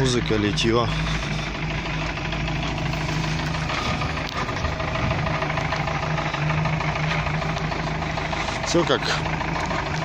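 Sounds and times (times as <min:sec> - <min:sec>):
petrol engine running with knock: 0:00.0 - 0:10.0.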